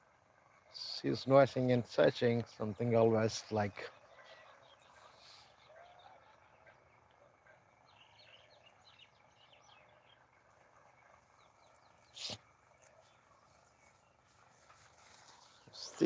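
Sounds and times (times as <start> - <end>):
distant bird chirps: 0.0 - 16.0.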